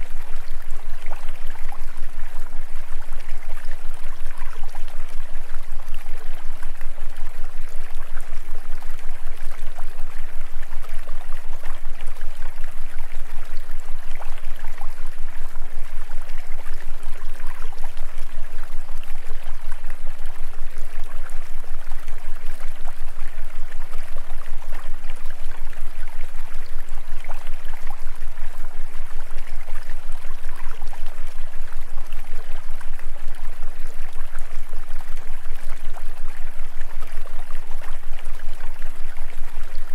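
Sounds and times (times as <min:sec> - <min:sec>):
constant low hum: 0:00.0 - 0:37.0.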